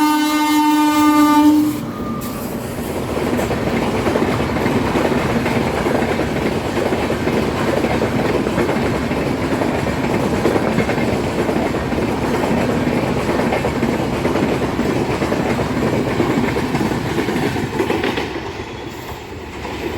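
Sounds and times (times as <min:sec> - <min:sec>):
train wheels on rails: 0:00.0 - 0:19.9.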